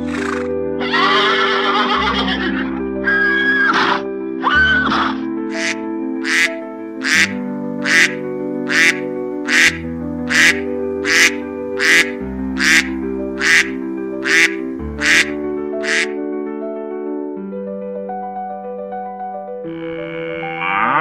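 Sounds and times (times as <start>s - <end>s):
background music with sustained chords: 0.0s - 21.0s.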